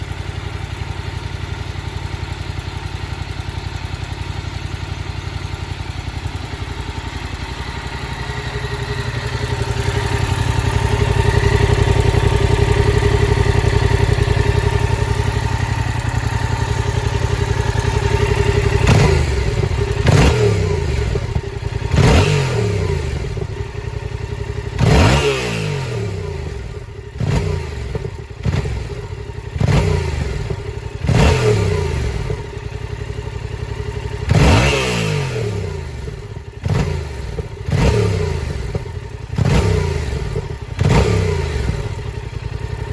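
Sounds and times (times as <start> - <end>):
motorcycle engine idling: 0.0 - 42.9
motorcycle engine revving: 0.0 - 42.9.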